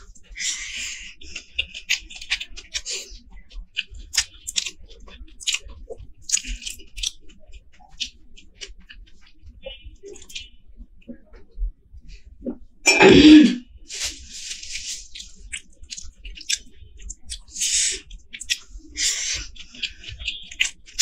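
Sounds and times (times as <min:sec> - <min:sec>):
fingers squishing rice: 0:00.0 - 0:10.5, 0:13.9 - 0:21.0
chewing and mouth smacks: 0:00.1 - 0:11.6, 0:13.9 - 0:21.0.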